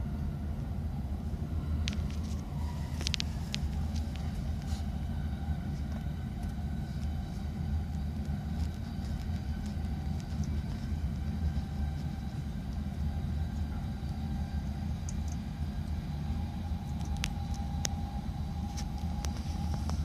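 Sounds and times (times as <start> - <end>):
faint steady whine: 0.0 - 20.0
train running rumble: 0.0 - 20.0.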